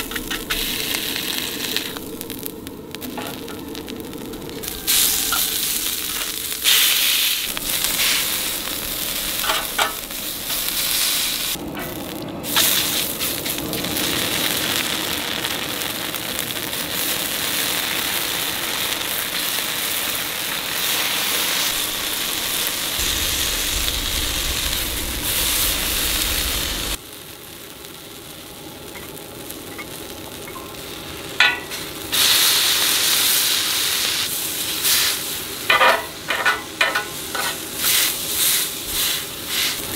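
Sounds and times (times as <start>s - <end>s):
skewers sizzling in oil: 0.0s - 39.9s.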